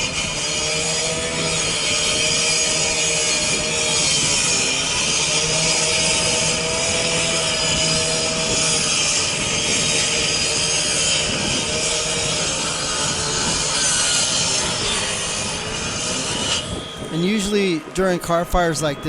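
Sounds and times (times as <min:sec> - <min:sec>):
circular saw cutting sheet metal: 0:00.0 - 0:19.0.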